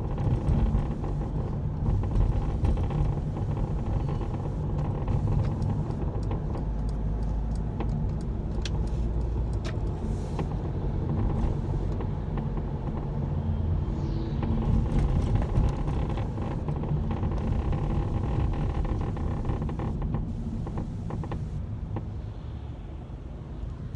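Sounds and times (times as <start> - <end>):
road rumble in vehicle cabin: 0.0 - 23.9.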